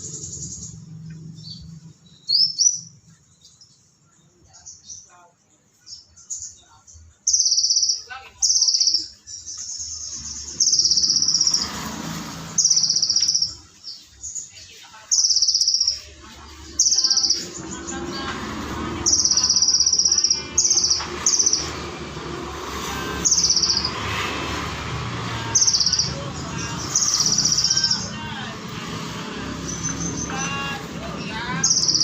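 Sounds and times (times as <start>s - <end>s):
bird chattering song: 0.0s - 32.0s
bird singing rapid trills: 0.0s - 32.0s.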